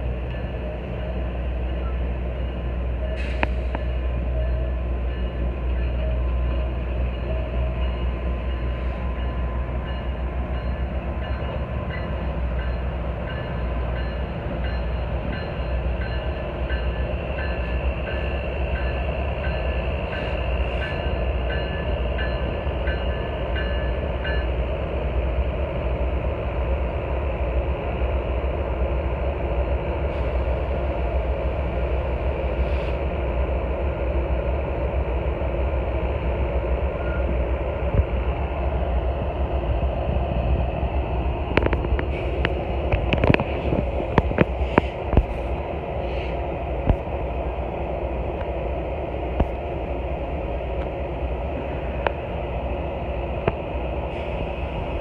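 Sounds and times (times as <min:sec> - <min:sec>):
train cars rumbling on rails: 0:00.0 - 0:55.0.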